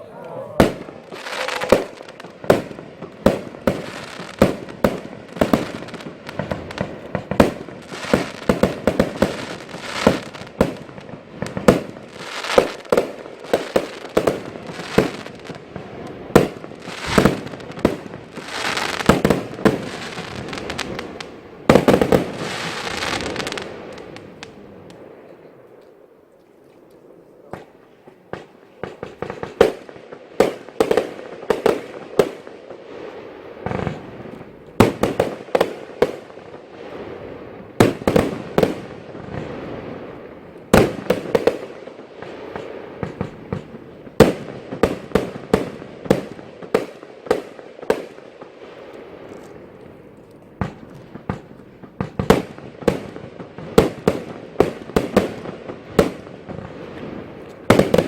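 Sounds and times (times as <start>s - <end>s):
fireworks bangs: 0.0s - 25.4s, 27.5s - 58.0s
fireworks crackle: 0.6s - 26.0s, 26.9s - 58.0s.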